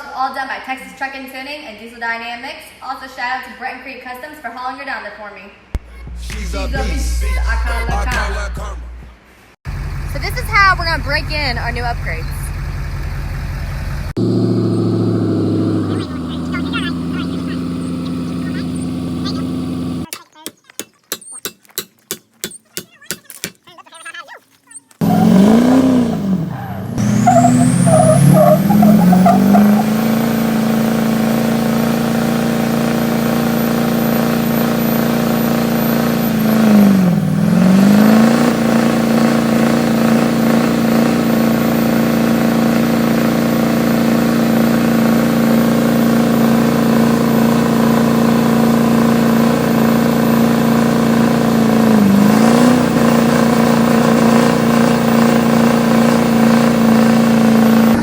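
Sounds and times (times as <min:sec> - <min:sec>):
diesel engine at high revs: 0:05.8 - 0:20.1, 0:25.0 - 0:58.0.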